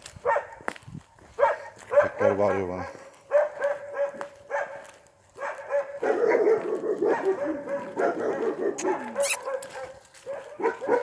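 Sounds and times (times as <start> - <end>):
dogs barking and yipping: 0.1 - 11.0.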